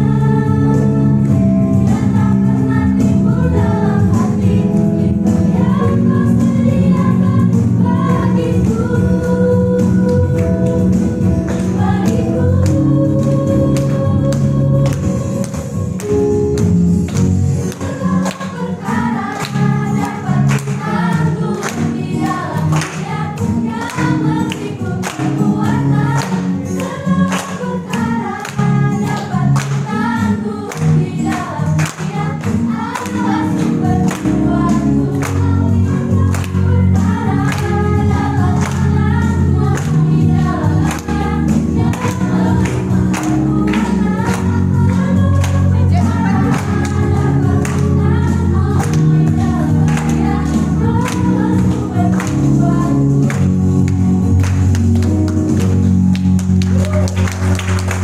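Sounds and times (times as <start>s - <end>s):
choir singing gospel song: 0.0s - 55.8s.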